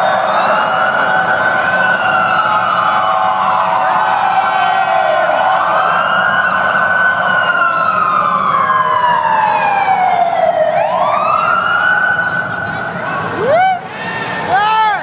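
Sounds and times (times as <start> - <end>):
siren wailing in a tunnel: 0.0 - 14.5.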